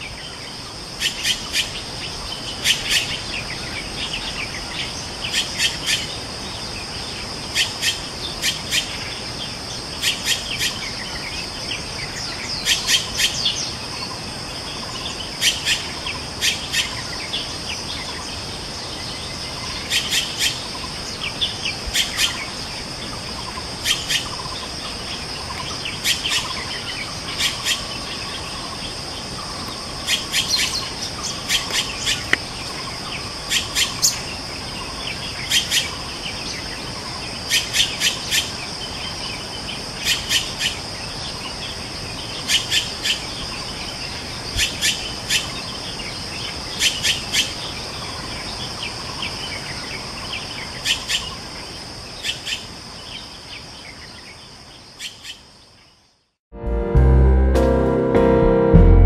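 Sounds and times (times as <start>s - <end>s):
high insect drone: 0.0s - 56.2s.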